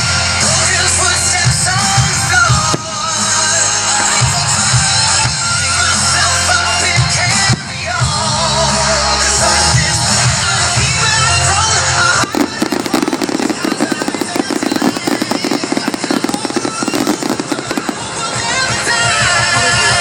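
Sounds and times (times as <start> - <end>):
loud show music: 0.0 - 20.0
fireworks crackling rapidly: 0.3 - 8.2, 9.5 - 20.0.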